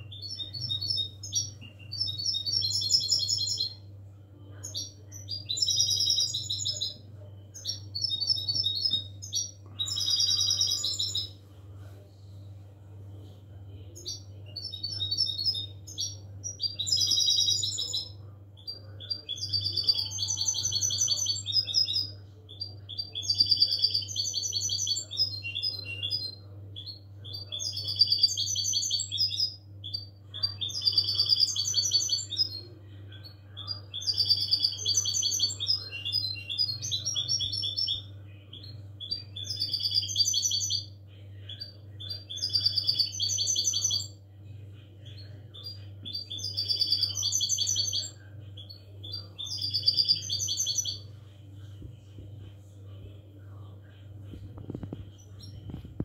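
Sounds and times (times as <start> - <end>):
bird twittering song: 0.0 - 3.9, 4.6 - 11.4, 13.7 - 44.2, 45.0 - 51.1
steady low hum: 0.0 - 56.0.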